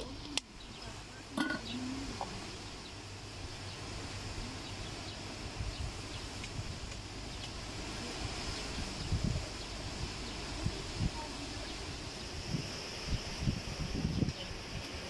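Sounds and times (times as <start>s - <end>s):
continuous high hiss: 0.0s - 15.0s.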